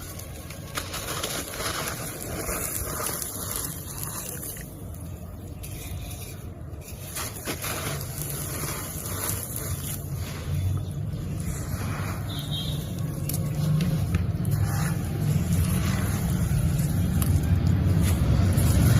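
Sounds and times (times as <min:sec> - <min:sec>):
cement chunks mixed with water: 0:00.0 - 0:18.9.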